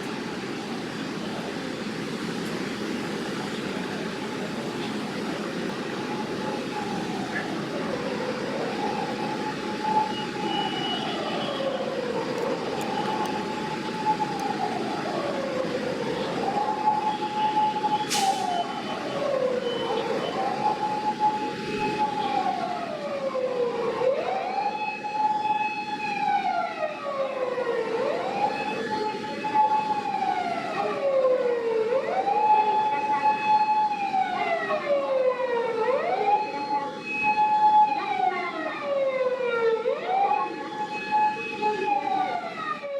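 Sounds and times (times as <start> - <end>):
emergency vehicle siren wailing: 0.0 - 42.9
traffic noise: 0.0 - 42.9.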